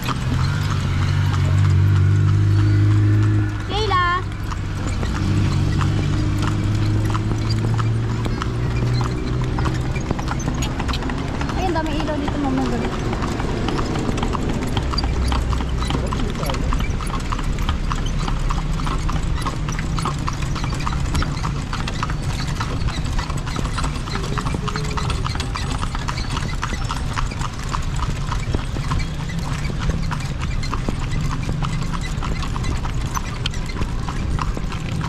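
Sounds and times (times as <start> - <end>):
horse hooves clip-clopping: 0.0 - 35.0.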